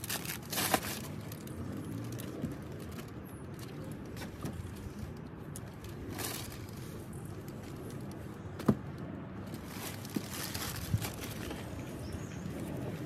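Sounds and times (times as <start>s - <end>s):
plastic bag rustling: 0.0s - 8.2s, 9.4s - 12.0s
small things being handled: 0.0s - 13.0s.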